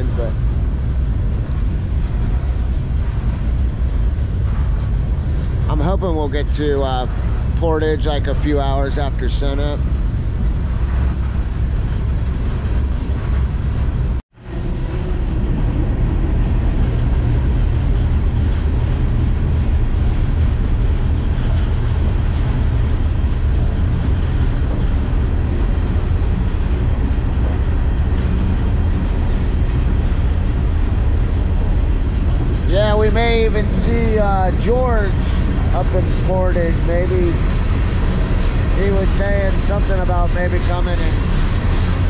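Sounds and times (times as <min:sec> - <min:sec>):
freight train rumbling: 0:00.0 - 0:42.0.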